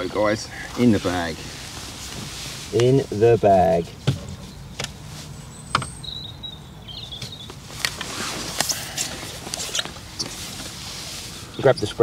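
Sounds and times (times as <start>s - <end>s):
rustling: 0.0s - 5.6s, 7.5s - 12.0s.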